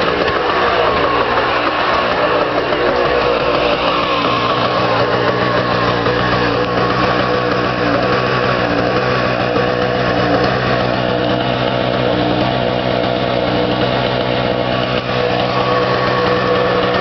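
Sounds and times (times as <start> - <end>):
two-stroke generator engine running: 0.0 - 17.0.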